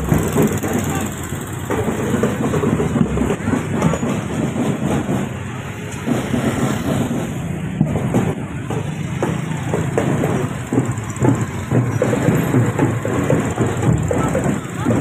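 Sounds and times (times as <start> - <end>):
motor vehicle running: 0.0 - 15.0.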